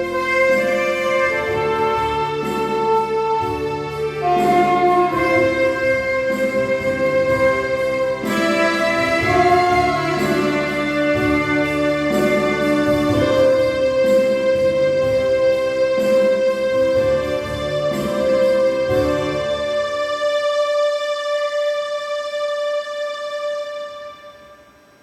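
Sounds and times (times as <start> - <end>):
saxophone playing slow melody: 0.0 - 24.9
instrumental backing track: 0.0 - 25.0.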